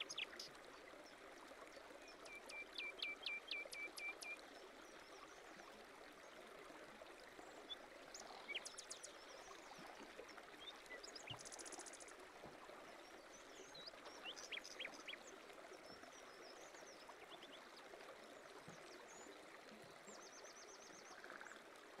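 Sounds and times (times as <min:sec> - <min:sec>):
running water babbling: 0:00.0 - 0:22.0.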